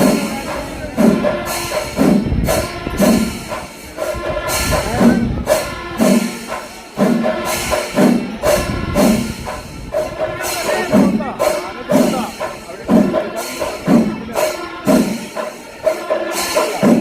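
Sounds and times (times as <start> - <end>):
cymbals clashing: 0.0 - 17.0
drums beaten in steady rhythm: 0.0 - 17.0
held pitched notes: 0.0 - 17.0.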